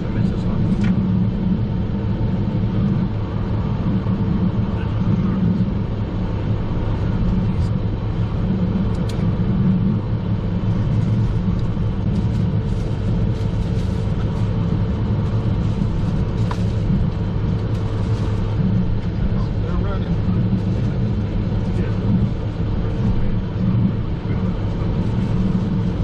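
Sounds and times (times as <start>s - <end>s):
jet engine and airflow drone: 0.0s - 26.0s
low hum: 0.0s - 26.0s.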